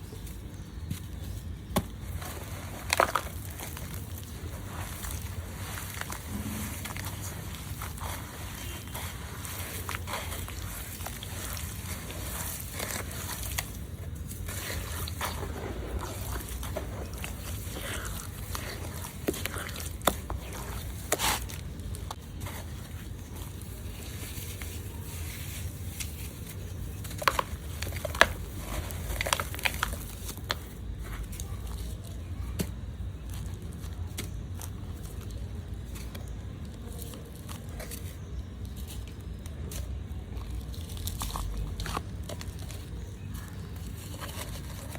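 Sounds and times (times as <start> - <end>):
hands crumbling dirt: 0.0 - 44.9.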